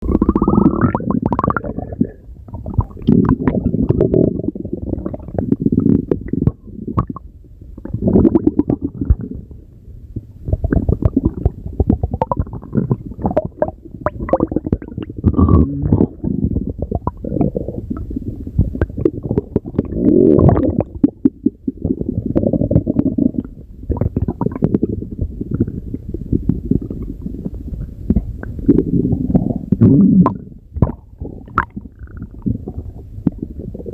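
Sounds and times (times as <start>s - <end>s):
stomach growling: 0.0s - 9.6s, 10.2s - 33.9s.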